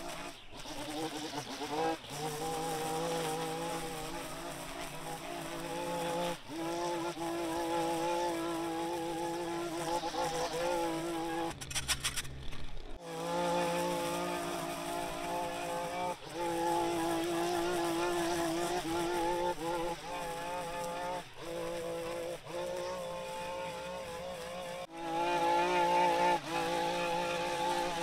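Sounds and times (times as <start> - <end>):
small engine buzzing: 0.0 - 28.0.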